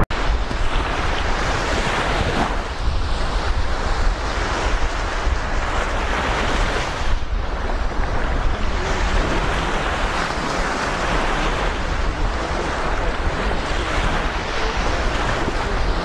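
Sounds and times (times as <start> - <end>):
sea waves washing ashore: 0.0 - 16.0
wind rumbling on microphone: 0.0 - 16.0.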